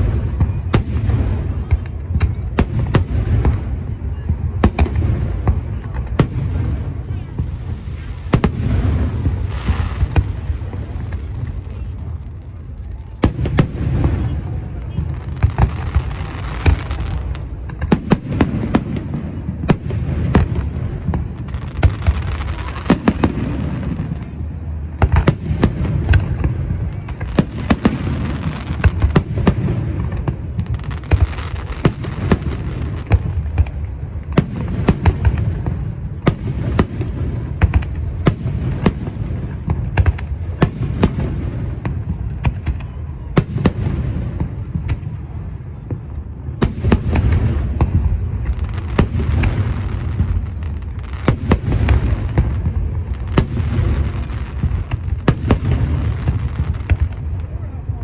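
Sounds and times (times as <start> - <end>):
fireworks bangs: 0.0 - 58.0
fireworks crackling hiss: 0.0 - 58.0.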